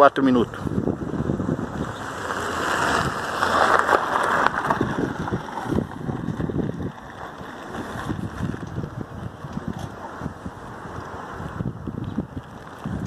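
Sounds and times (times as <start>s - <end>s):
rushing fire: 0.0s - 13.0s
wind on microphone: 0.3s - 13.0s
fire cracking: 0.7s - 13.0s.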